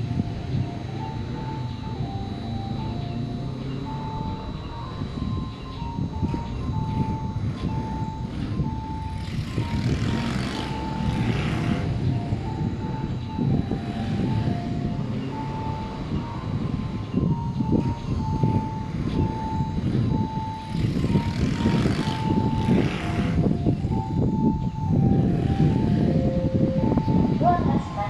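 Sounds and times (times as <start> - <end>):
crossing warning bell dinging: 0.0 - 28.0
electric train rumbling: 0.0 - 28.0.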